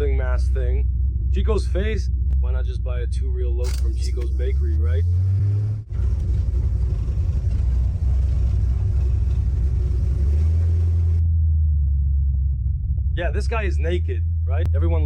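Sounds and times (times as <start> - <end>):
car engine deep low rumble: 0.0 - 15.0.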